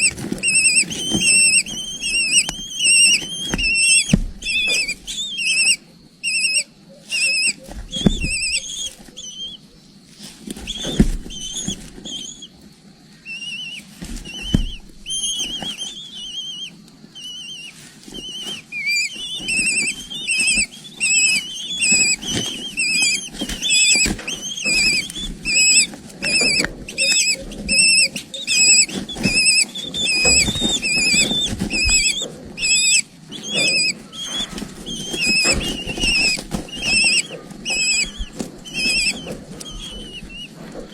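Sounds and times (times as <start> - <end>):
high warbling chick chirps: 0.0 - 9.6, 10.6 - 12.5, 13.2 - 40.9.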